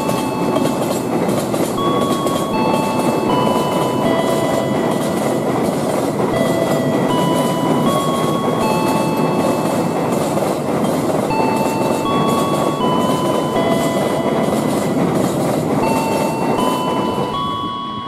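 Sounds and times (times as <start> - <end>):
repeating tune of held notes: 0.0 - 18.0
train rumbling on rails: 0.0 - 18.0.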